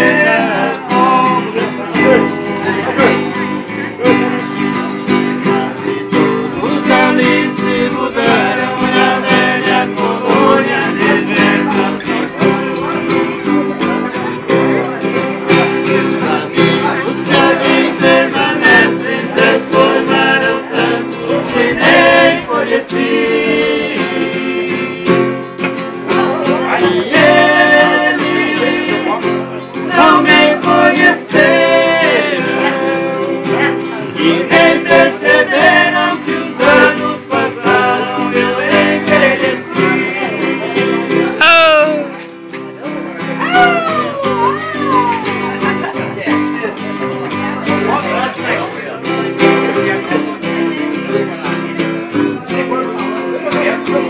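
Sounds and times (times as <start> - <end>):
men singing together: 0.0 - 42.2, 47.8 - 54.0
acoustic guitars strummed: 0.0 - 54.0.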